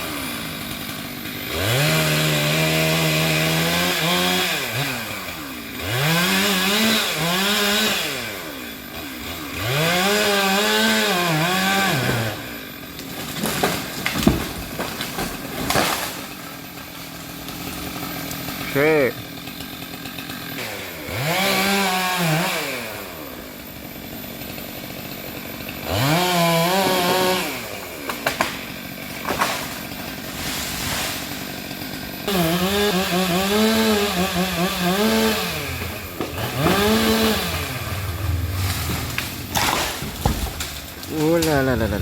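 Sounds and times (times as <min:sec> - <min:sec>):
chainsaw revving and idling: 0:00.0 - 0:42.0.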